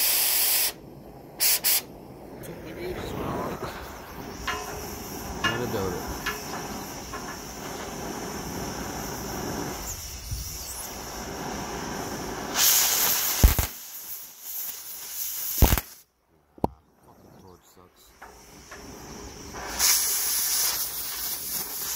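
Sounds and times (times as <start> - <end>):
sharp pops from torch cut: 0.0 - 0.8, 1.4 - 1.9, 4.2 - 16.8, 18.2 - 21.9
cutting torch hissing: 0.0 - 16.1, 17.4 - 21.9.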